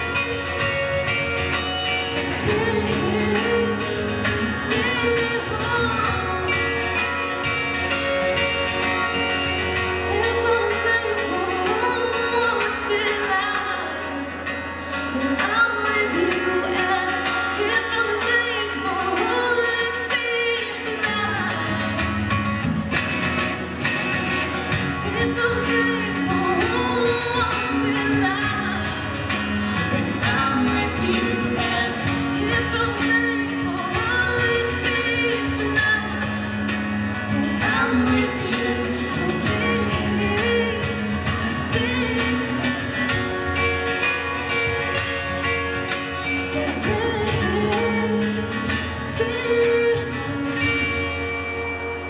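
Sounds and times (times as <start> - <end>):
woman singing: 0.0 - 22.7, 24.6 - 52.0
acoustic guitar: 0.0 - 52.0.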